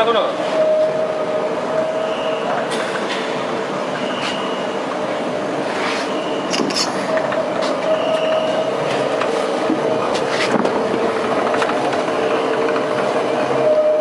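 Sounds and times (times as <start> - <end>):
conveyor machinery din: 0.0 - 14.0
steady humming tones: 0.0 - 14.0.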